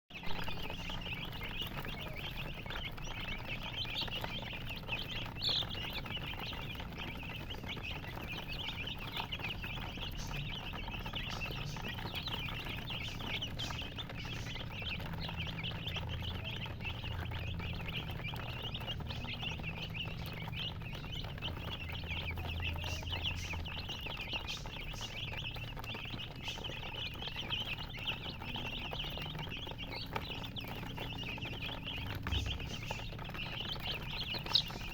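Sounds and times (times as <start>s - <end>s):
baby chicks peeping: 0.1s - 34.9s.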